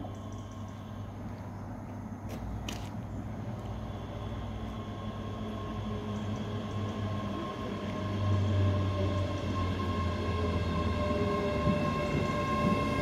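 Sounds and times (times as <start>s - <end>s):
electric train running hum: 0.0s - 13.0s.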